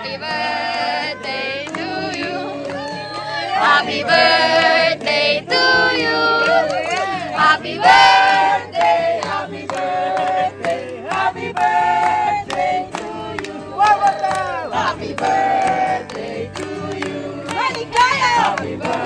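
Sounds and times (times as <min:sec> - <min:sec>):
group of people singing: 0:00.0 - 0:19.0
hand clapping: 0:00.2 - 0:19.0.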